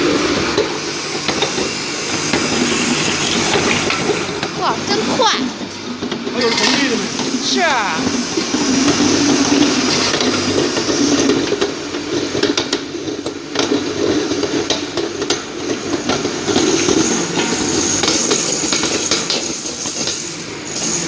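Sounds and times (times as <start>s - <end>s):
mill motor grinding: 0.0s - 21.0s.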